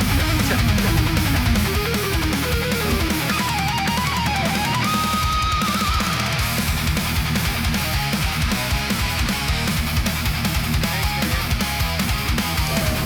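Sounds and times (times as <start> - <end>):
heavy metal instrumental music: 0.0 - 13.0.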